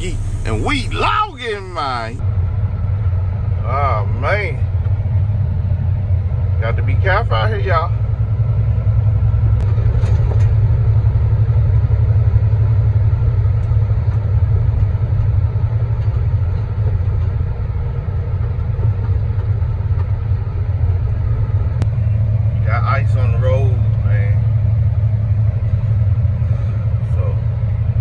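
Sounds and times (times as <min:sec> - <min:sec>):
road noise: 0:00.0 - 0:28.0
truck diesel engine droning: 0:00.0 - 0:28.0.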